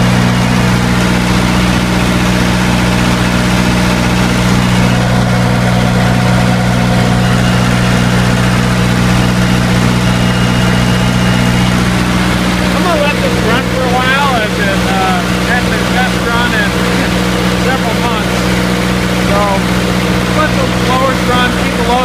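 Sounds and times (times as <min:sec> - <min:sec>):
diesel generator drone: 0:00.0 - 0:22.0.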